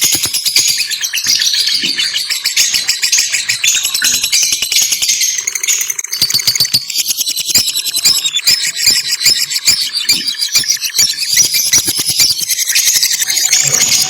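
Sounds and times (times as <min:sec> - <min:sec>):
lovebirds chirping and squealing: 0:00.0 - 0:14.0.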